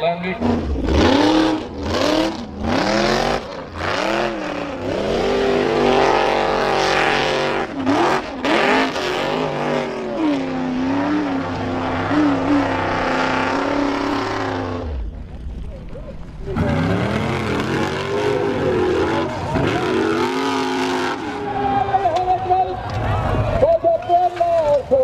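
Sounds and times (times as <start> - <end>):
buggy engine revving: 0.0 - 23.8.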